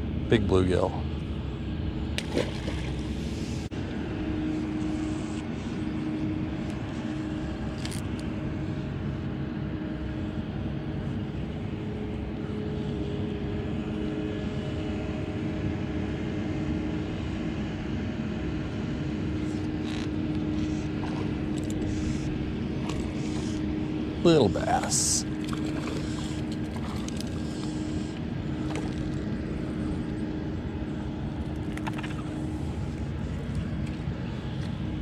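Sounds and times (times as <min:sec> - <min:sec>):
distant engine droning: 0:00.0 - 0:35.0.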